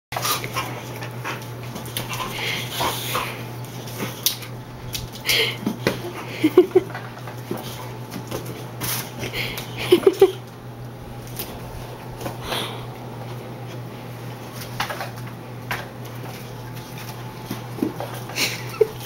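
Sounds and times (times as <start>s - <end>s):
dogs scuffling: 0.2s - 19.0s.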